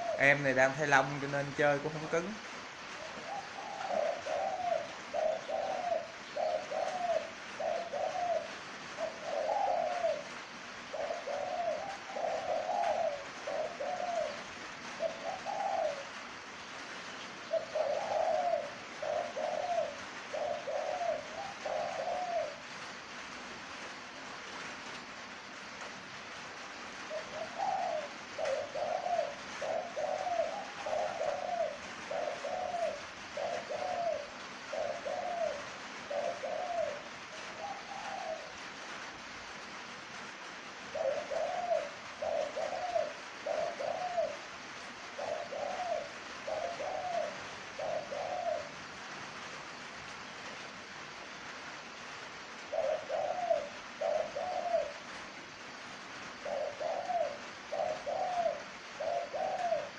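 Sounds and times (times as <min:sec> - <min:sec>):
dove cooing: 0:00.0 - 0:22.9, 0:26.6 - 0:39.3, 0:40.8 - 0:49.8, 0:50.6 - 0:55.4, 0:56.2 - 0:59.9.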